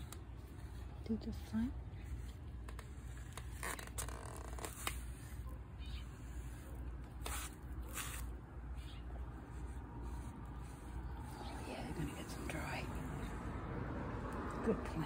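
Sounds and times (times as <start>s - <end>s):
brush scratching through fur: 0.0s - 13.6s.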